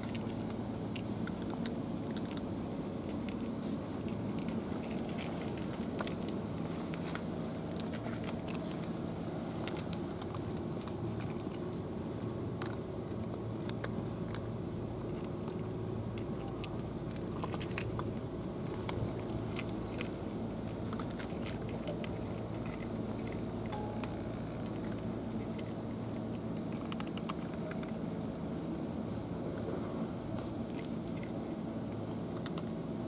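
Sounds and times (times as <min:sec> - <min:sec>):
cats crunching dry kibble: 0:00.0 - 0:29.0, 0:30.4 - 0:33.0
low background rumble: 0:00.0 - 0:33.0.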